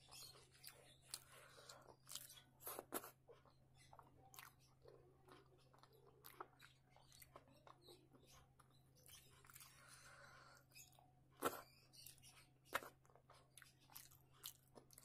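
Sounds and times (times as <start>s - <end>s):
faint wet chewing: 0.0s - 15.0s.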